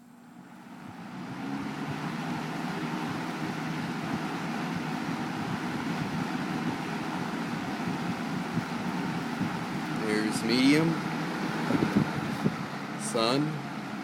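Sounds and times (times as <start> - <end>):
box fan running: 0.0 - 14.0.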